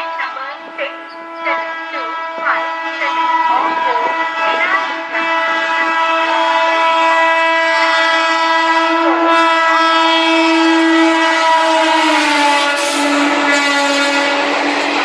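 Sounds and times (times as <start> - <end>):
locomotive horn blast: 0.0 - 15.0.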